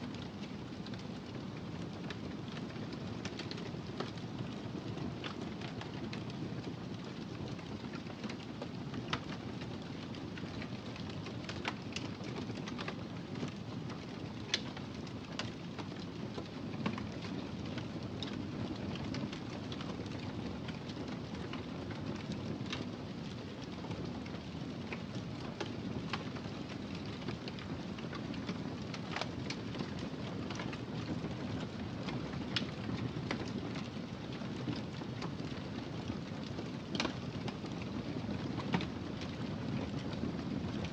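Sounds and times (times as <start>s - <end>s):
fire crackling and popping: 0.1s - 40.9s.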